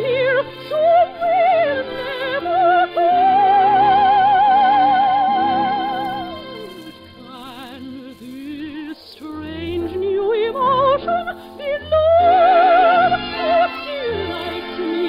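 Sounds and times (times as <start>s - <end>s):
orchestral music slow melody: 0.0s - 15.0s.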